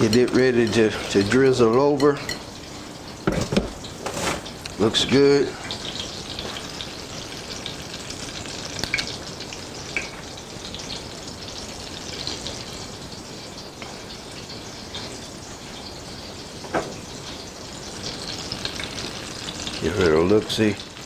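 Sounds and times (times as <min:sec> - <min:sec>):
fritters sizzling in oil: 0:00.0 - 0:21.0
oil popping and crackling: 0:00.0 - 0:21.0.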